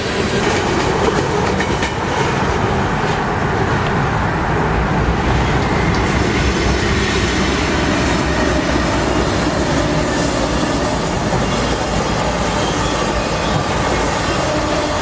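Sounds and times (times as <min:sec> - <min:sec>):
steel train wheels rumbling on rails: 0:00.0 - 0:15.0.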